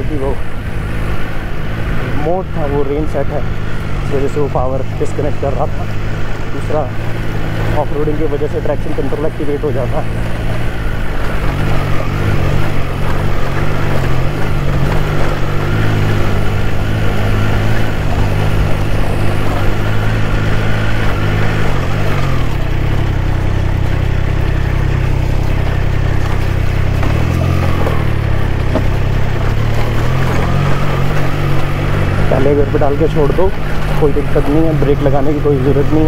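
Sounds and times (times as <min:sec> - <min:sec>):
motorcycle engine climbing: 0:00.0 - 0:36.0.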